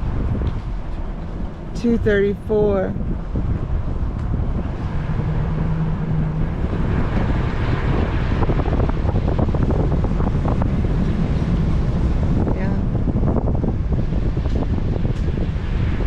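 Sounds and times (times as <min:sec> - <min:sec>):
vehicle rumbling: 0:00.0 - 0:16.0
wind buffeting microphone: 0:00.0 - 0:16.0.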